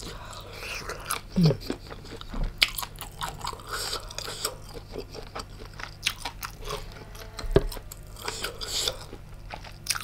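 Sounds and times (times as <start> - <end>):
close chewing and crunching: 0.0 - 10.0.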